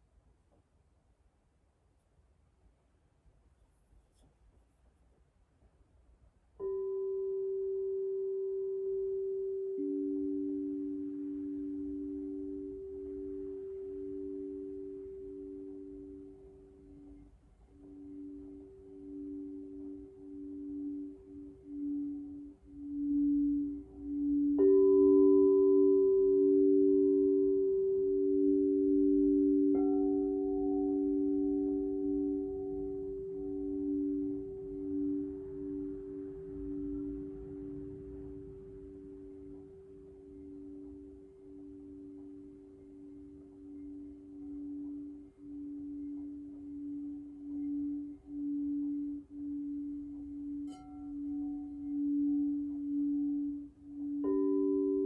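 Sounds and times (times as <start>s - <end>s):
singing bowl steady tone: 6.4s - 55.0s
singing bowl struck ringing: 6.6s - 55.0s.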